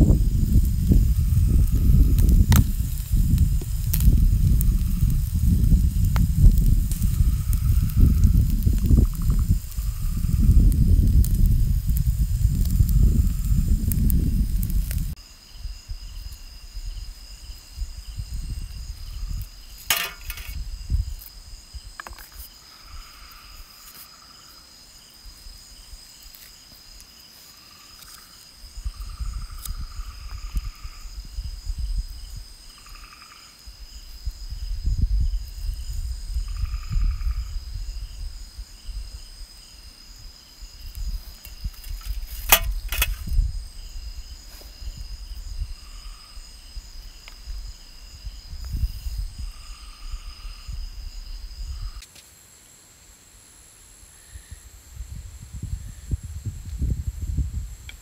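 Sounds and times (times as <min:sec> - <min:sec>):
crickets chirring: 0:00.0 - 0:58.0.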